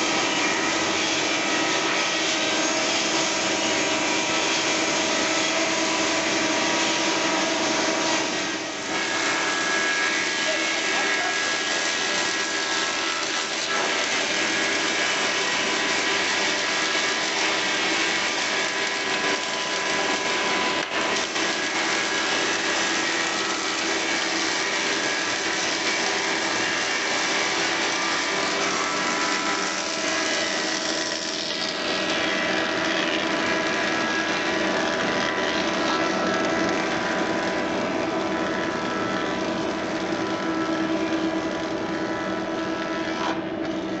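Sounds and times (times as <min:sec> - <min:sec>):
thickness planer running: 0:00.0 - 0:44.0.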